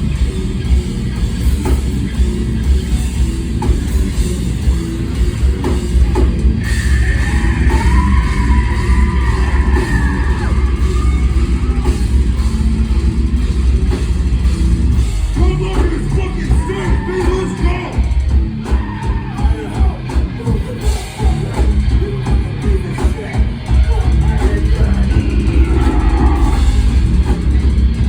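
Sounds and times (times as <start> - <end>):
heavy metal band music: 0.0 - 28.0
pounding drums: 0.0 - 28.0.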